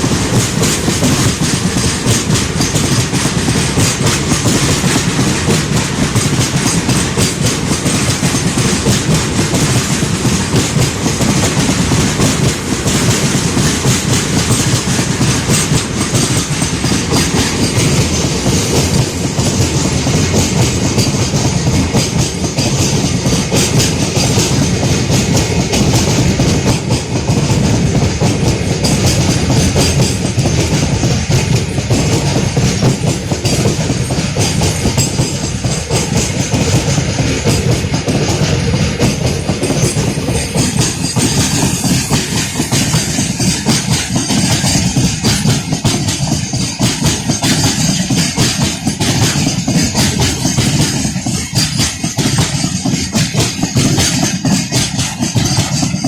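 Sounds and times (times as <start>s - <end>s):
freight train rolling past: 0.0s - 56.0s
wheels clacking over rail joints: 0.0s - 56.0s.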